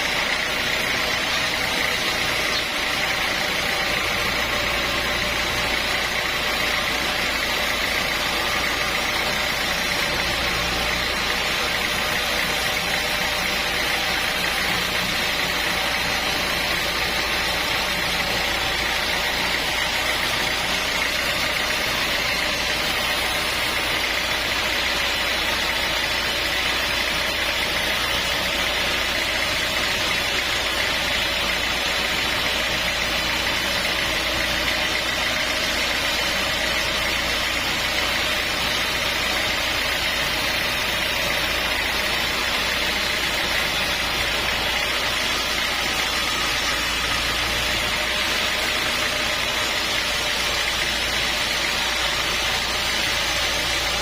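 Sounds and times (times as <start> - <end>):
high machine whine: 0.0 - 54.0
sawmill machinery drone: 0.0 - 54.0.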